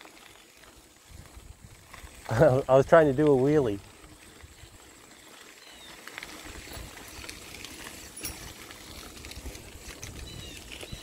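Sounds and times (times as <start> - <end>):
bicycle tyres crunching on gravel: 0.0 - 11.0
bike clicks and rattles: 0.0 - 11.0
wind rumbling on microphone: 0.6 - 5.1, 5.8 - 11.0.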